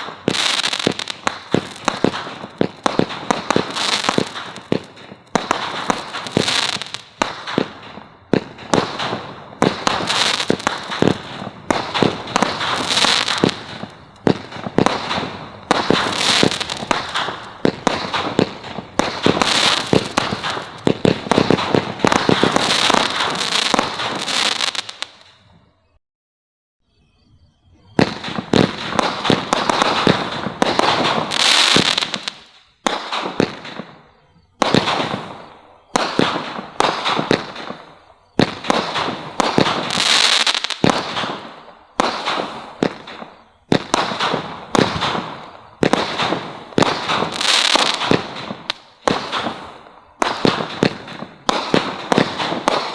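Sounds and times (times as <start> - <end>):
fireworks popping and crackling: 0.0 - 25.4, 28.0 - 52.9.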